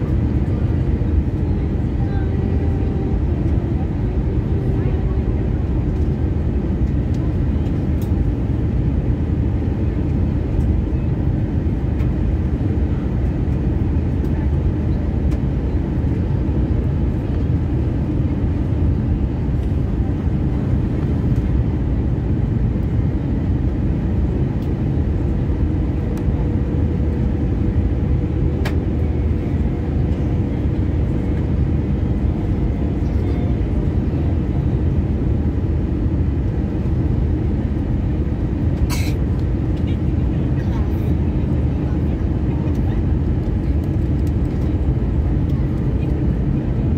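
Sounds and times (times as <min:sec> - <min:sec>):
airplane cabin engine roar: 0:00.0 - 0:46.9.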